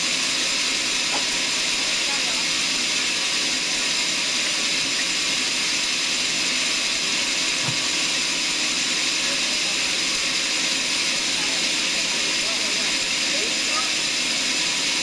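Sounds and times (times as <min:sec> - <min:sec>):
sawmill saw running: 0:00.0 - 0:15.0.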